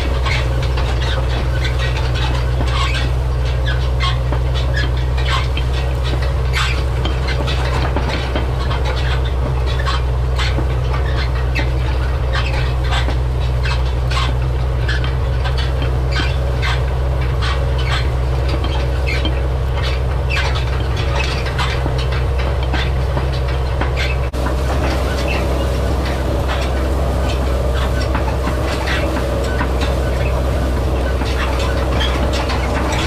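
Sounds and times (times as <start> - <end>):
diesel tractor droning: 0.0 - 33.0
hay rake rattling and squeaking: 0.0 - 33.0.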